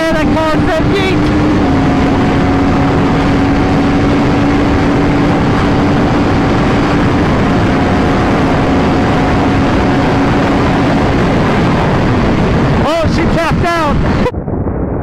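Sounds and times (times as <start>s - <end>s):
motorcycle engine at high revs: 0.0s - 13.0s
wind noise: 0.0s - 15.0s.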